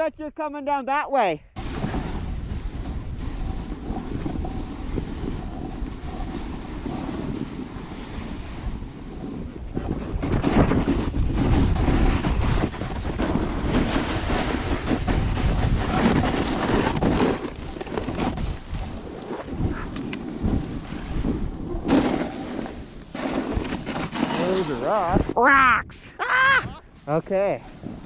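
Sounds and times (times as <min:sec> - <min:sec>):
wind rushing over microphone: 0:01.5 - 0:28.0
skis scraping on snow: 0:01.6 - 0:25.4.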